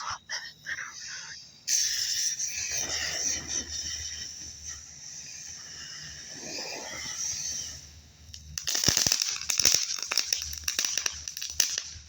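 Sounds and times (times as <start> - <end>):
firework hissing with whistle: 0.7 - 12.0
firework crackling: 1.7 - 12.0.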